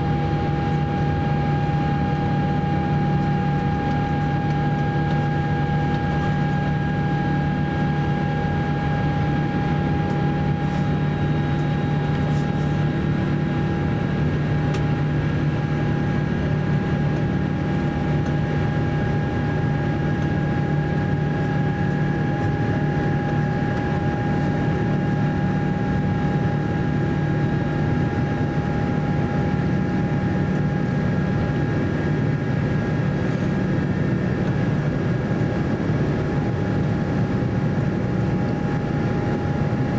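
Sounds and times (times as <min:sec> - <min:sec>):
constant hum and whine: 0:00.0 - 0:39.9
jet engine roar: 0:00.0 - 0:39.9.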